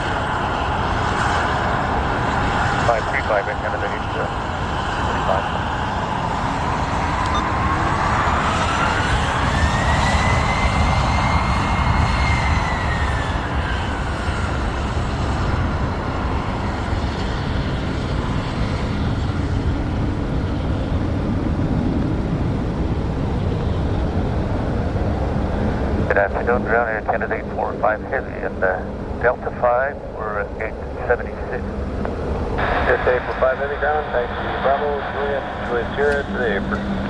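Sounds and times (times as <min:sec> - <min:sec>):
jet engine whine: 0:00.0 - 0:37.0
jet engines rumbling: 0:00.0 - 0:37.0.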